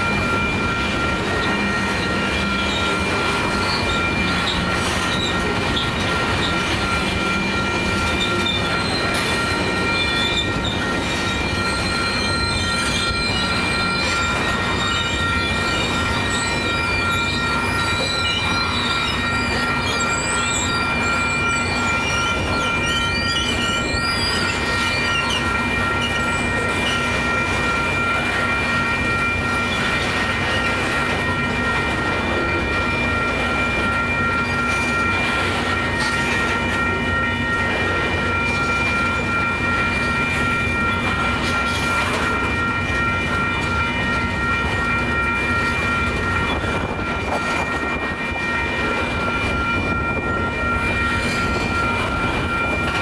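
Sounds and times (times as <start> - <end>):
high-pitched tones: 0.0 - 53.0
train wheels rumbling on rails: 0.0 - 53.0.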